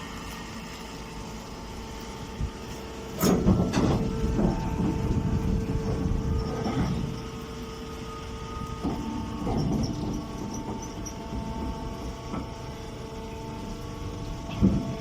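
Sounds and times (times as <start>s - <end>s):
baler machine humming: 0.0s - 15.0s.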